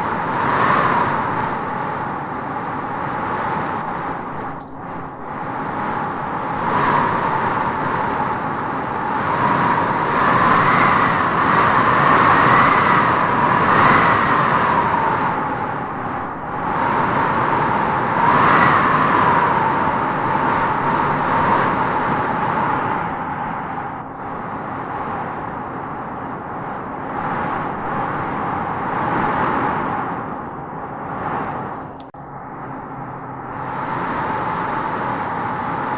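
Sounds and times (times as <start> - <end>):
wind howling in gusts: 0.0 - 35.9.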